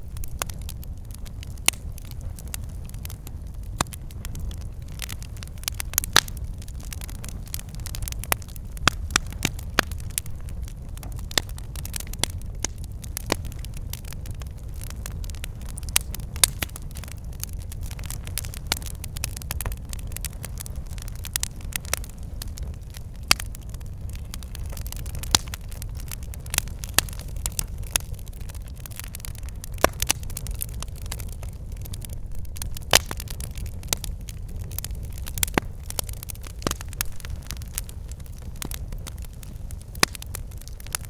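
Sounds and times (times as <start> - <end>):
roar of flames: 0.0 - 41.0
wood crackling and popping: 0.0 - 41.0.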